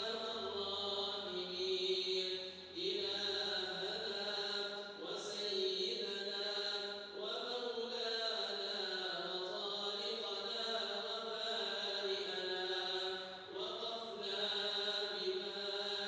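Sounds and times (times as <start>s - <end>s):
person chanting recitation: 0.0s - 16.0s.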